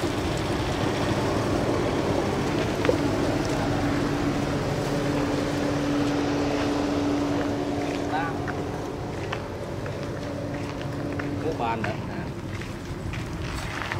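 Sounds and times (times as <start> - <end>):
steady hum: 0.0 - 13.9.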